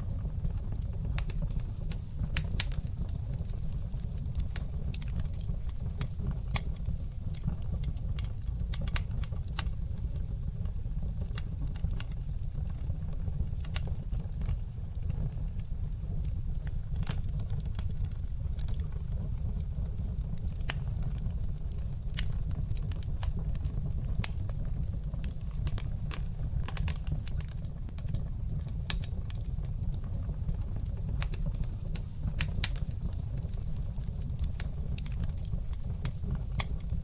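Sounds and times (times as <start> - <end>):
low rumble of burning fire: 0.0 - 37.0
wood fire pops and snaps: 0.0 - 37.0.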